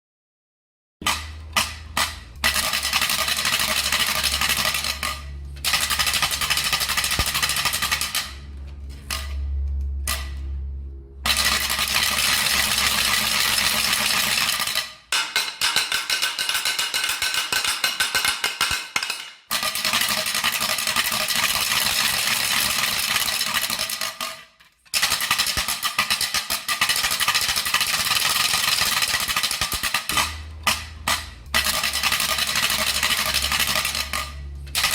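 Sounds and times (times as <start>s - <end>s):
wooden ratchet rattle clacking: 1.0s - 8.4s, 11.3s - 34.9s.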